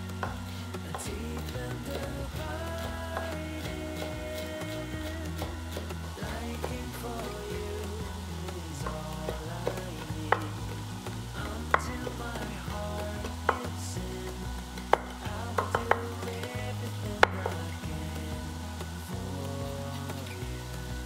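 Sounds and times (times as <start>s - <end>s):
food sizzling in a pan: 0.0s - 21.0s
utensil tapping against pan: 0.2s - 20.4s.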